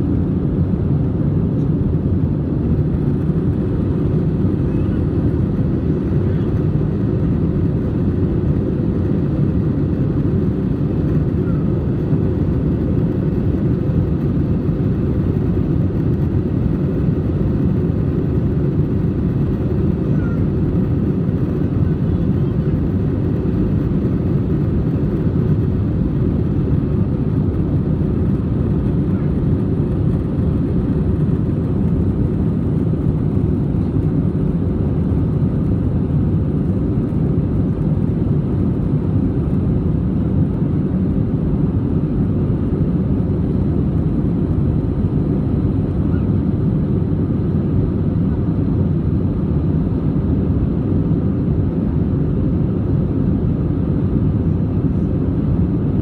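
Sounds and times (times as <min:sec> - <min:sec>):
airplane cabin engine noise: 0:00.0 - 0:56.0.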